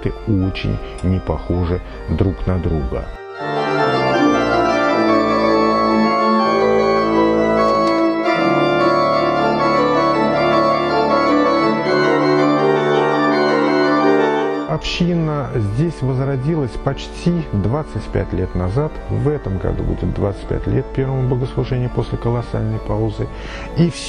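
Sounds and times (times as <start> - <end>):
pipe organ sustained chords: 0.0 - 24.0.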